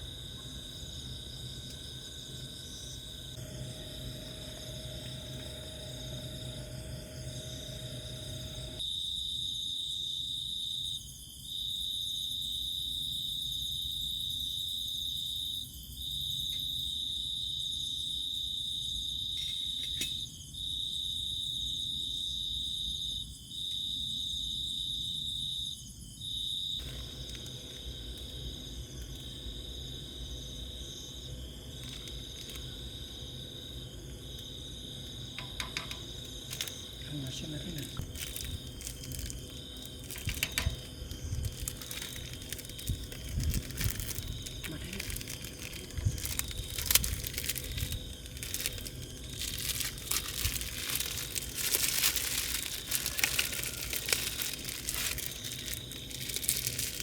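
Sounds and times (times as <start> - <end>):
chorus of faint insect tones: 0.0 - 57.0
loud high insect trill: 0.0 - 57.0.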